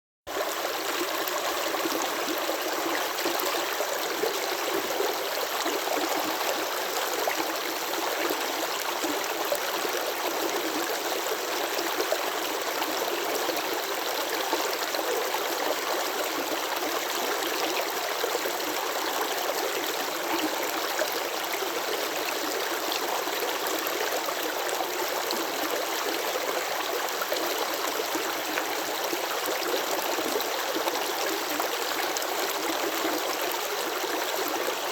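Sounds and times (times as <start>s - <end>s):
water flowing and babbling: 0.3s - 34.9s.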